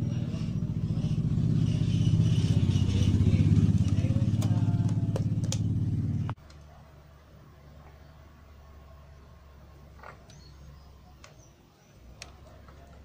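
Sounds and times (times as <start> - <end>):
engine running low pulsing: 0.0 - 11.1.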